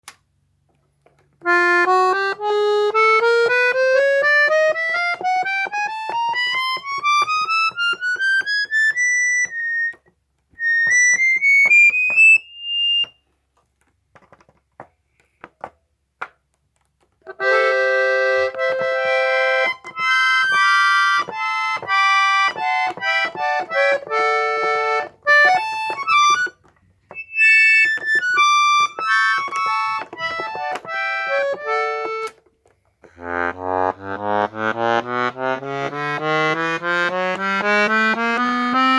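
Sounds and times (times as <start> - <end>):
accordion playing: 1.4 - 10.0, 10.6 - 13.1, 17.2 - 38.9.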